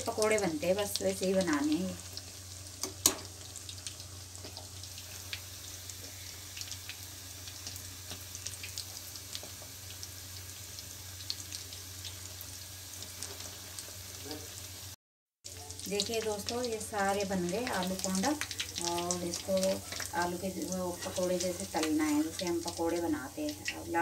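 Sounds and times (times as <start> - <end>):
oil crackles and pops: 0.0 - 14.5, 17.5 - 20.2, 20.9 - 23.8
food deep-frying in oil: 0.0 - 24.0.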